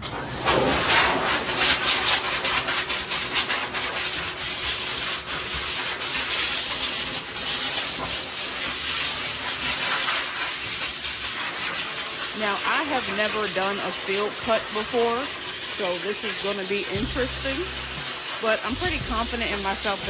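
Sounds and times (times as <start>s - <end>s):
water rushing into steel tub: 0.0s - 20.0s.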